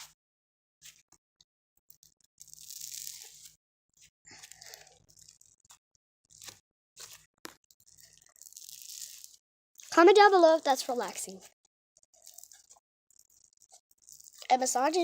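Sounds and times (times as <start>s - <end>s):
slime crackling and ripping: 2.0s - 3.6s, 4.3s - 15.0s.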